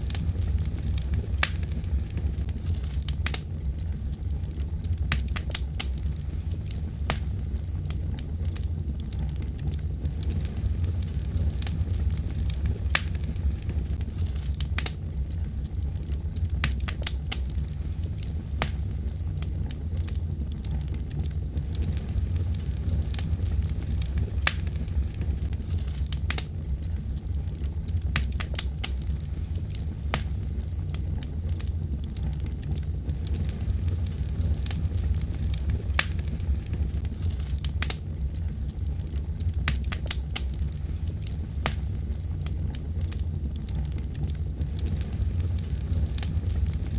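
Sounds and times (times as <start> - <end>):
fire crackling and popping: 0.0 - 46.9
fire rumbling: 0.0 - 46.9.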